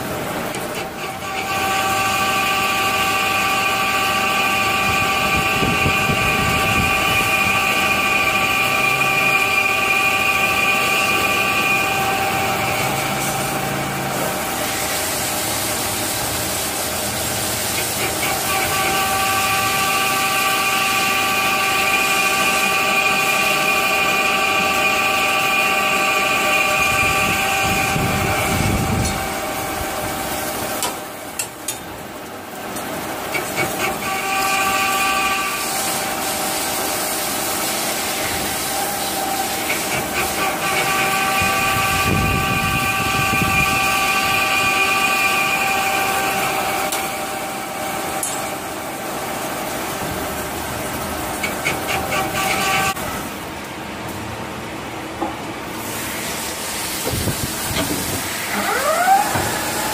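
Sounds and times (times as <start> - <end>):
lathe whine over hiss: 1.3 - 31.2, 33.2 - 53.4, 55.7 - 59.9.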